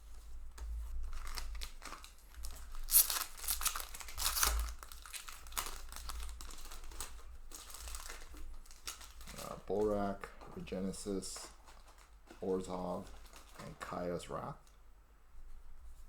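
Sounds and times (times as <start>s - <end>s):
rustling of wrapper and cards: 0.1s - 14.8s
foil wrapper tearing and crinkling: 1.0s - 14.2s.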